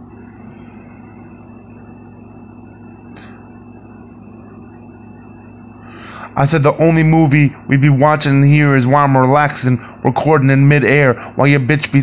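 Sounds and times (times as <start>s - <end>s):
low room hum: 0.0s - 12.0s
thin high whine: 0.0s - 12.0s.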